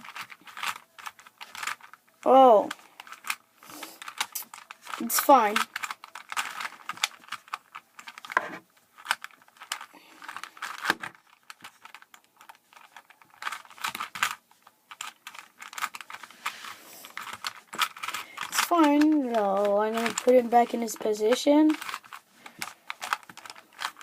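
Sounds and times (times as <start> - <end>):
puzzle cube plastic clicks: 0.0 - 24.0.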